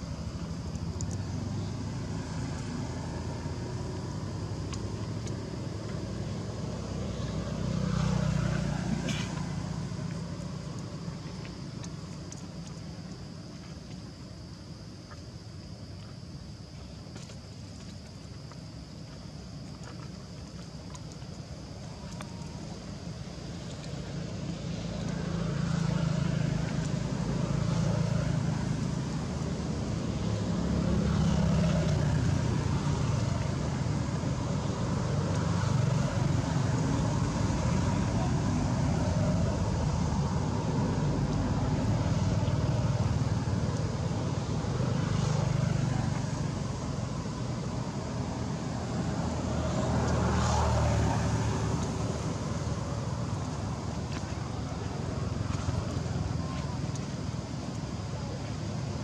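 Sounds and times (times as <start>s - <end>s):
vehicles passing: 0.0s - 12.1s, 22.2s - 59.0s.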